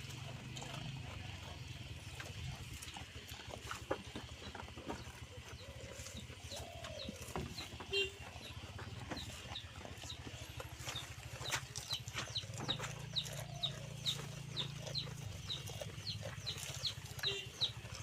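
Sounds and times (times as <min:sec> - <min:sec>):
chickens clucking: 0:00.0 - 0:18.0
drawn-out animal call: 0:00.0 - 0:18.0.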